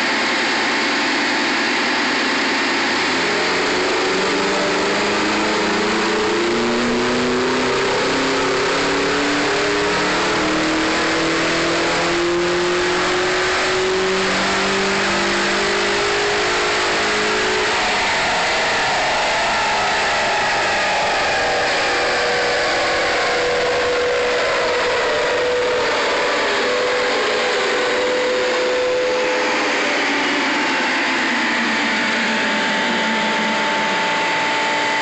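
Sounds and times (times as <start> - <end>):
car engine revving on dyno: 0.0 - 35.0.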